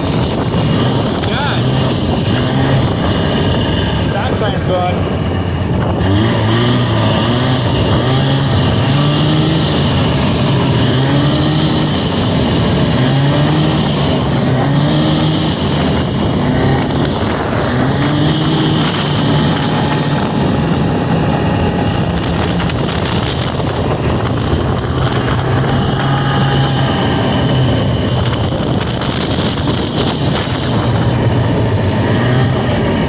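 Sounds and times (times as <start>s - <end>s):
snowmobile engine revving: 0.0s - 33.0s.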